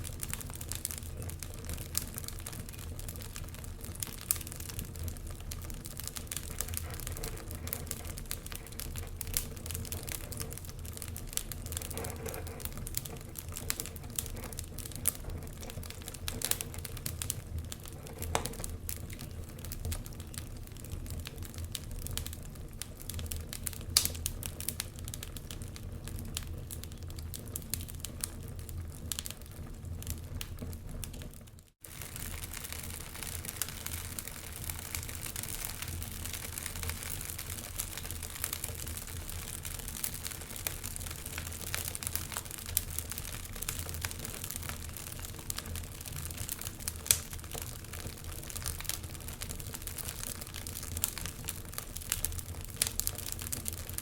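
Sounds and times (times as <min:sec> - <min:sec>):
wood fire crackling in fireplace: 0:00.0 - 0:54.0.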